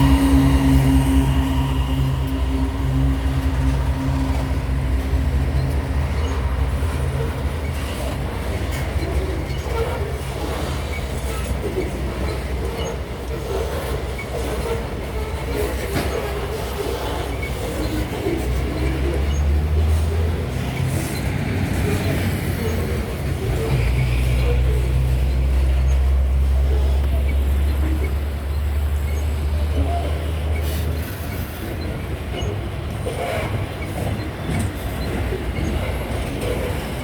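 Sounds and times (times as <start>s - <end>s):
diesel locomotive engine drone: 0.0s - 37.0s
train wheels clattering and squealing: 0.0s - 37.0s.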